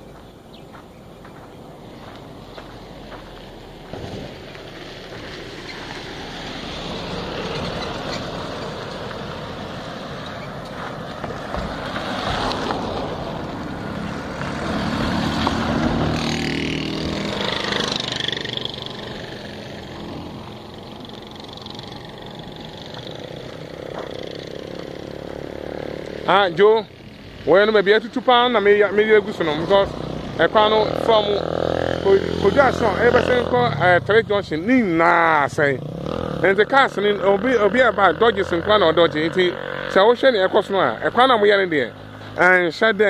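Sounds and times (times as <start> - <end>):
vehicle passing on road: 0.0 - 43.0.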